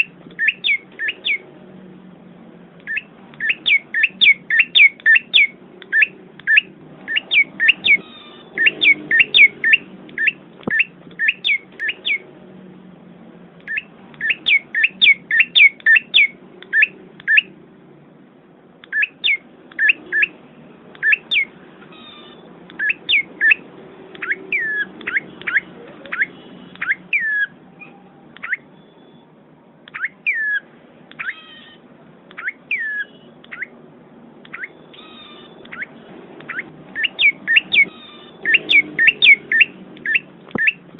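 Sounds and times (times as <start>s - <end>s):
small bird chirping: 0.0s - 1.5s, 2.8s - 12.3s, 13.6s - 17.6s, 18.8s - 29.3s, 29.9s - 33.8s, 34.4s - 40.9s.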